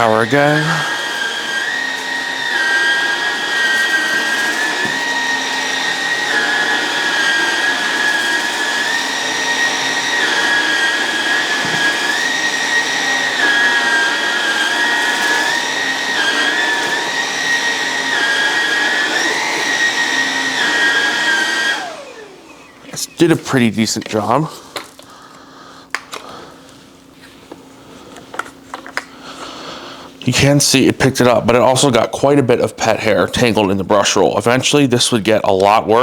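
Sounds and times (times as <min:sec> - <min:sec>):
stick vacuum whining on rug: 0:00.0 - 0:29.6.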